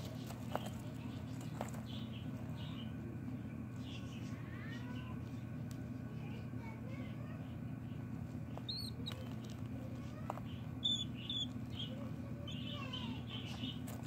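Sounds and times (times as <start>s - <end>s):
baby budgies cheeping: 0.0s - 14.0s
steady low hum: 0.0s - 14.0s.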